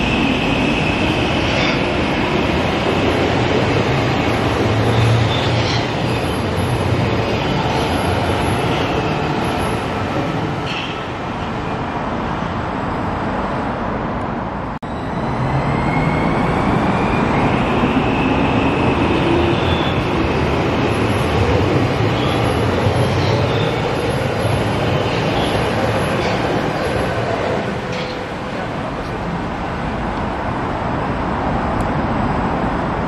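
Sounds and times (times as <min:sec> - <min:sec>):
metro train rolling: 0:00.0 - 0:33.0
rumble of train wheels: 0:00.0 - 0:33.0.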